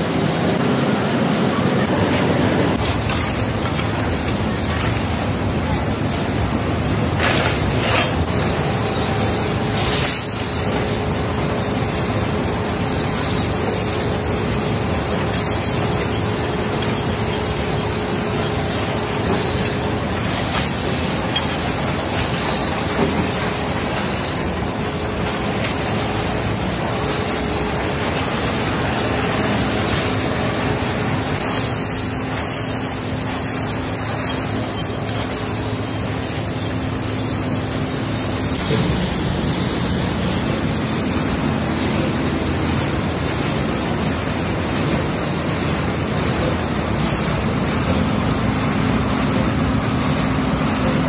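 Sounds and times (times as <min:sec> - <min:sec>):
conveyors moving broken glass: 0:01.8 - 0:51.0.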